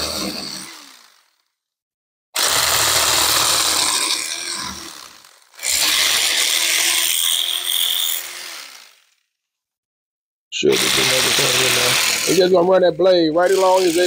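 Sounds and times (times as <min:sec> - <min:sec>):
electric knife running: 0:00.0 - 0:01.5, 0:02.4 - 0:09.3, 0:10.6 - 0:14.0.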